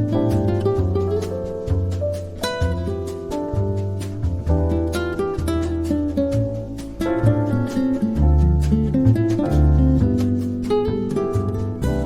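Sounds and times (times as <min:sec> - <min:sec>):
bass line: 0:00.0 - 0:12.0
plucked guitar music: 0:00.0 - 0:12.0.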